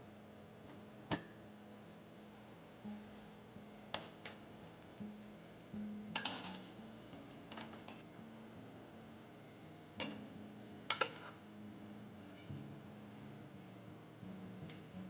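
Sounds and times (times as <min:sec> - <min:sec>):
faint music: 0:00.0 - 0:15.0.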